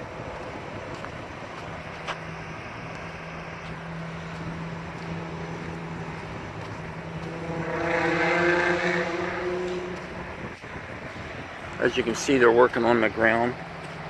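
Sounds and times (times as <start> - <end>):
low engine hum: 0.0 - 14.0
passing motor vehicle: 0.0 - 14.0.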